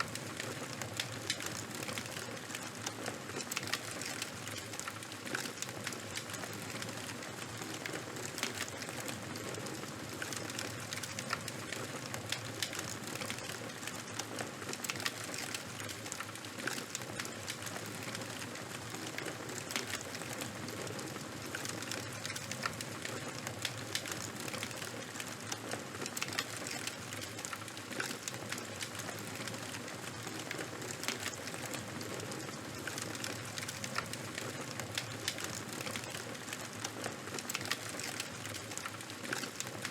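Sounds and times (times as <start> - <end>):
charcoal fire crackling: 0.0 - 39.9.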